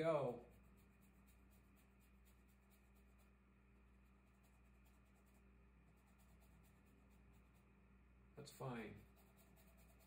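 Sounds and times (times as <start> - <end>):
paintbrush scratching on canvas: 0.0 - 7.8, 8.4 - 10.0
low steady hum: 0.0 - 10.0.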